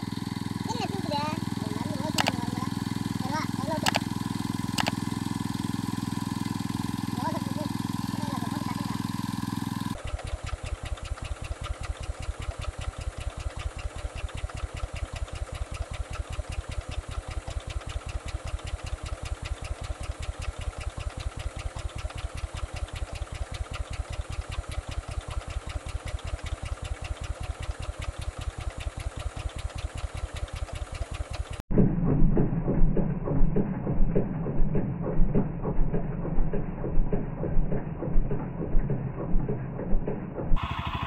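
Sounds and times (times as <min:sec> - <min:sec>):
petrol engine running: 0:00.0 - 0:31.6, 0:34.4 - 0:41.0.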